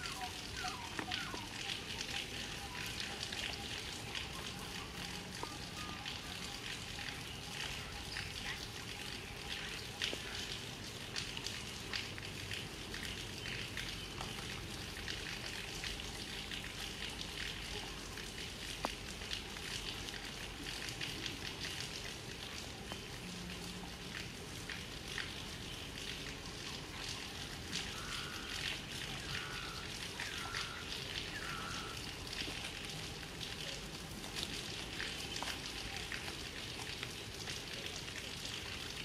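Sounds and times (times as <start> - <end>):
outdoor background hiss: 0.0 - 39.0.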